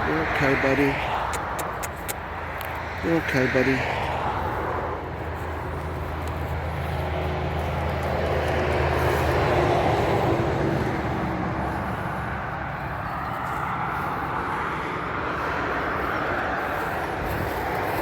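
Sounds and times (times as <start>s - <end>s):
low engine hum: 0.0s - 18.0s
motor vehicle passing: 0.0s - 18.0s.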